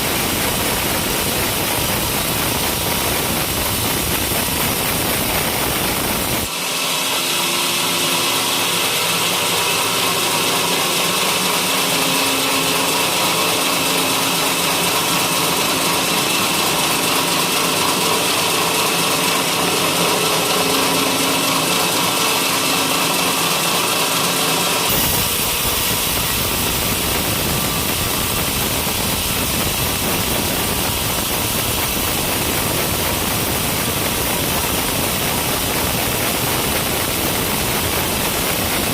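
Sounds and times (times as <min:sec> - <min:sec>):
sawmill sawing a log: 0:00.0 - 0:38.9.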